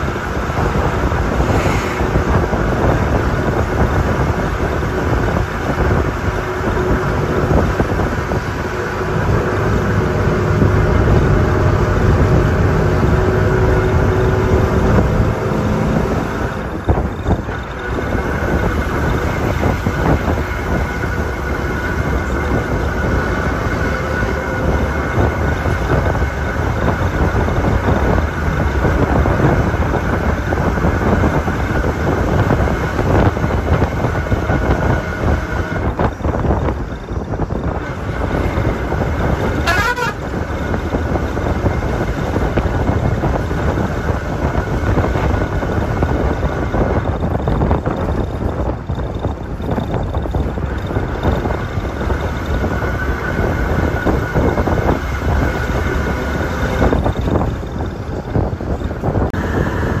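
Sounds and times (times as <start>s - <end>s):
tyres on rough dirt road: 0.0s - 60.0s
vehicle engine running: 0.0s - 60.0s.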